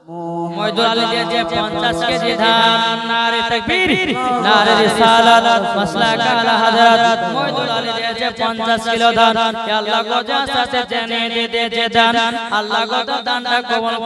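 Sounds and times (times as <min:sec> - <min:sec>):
person chanting melodically: 0:00.0 - 0:14.0.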